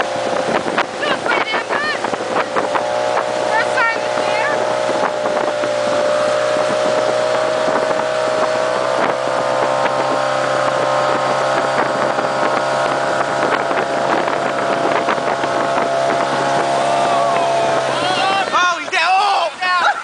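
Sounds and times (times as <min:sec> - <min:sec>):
boat engine droning: 0:00.0 - 0:20.0
rushing water: 0:00.0 - 0:20.0
wind on microphone: 0:00.0 - 0:20.0.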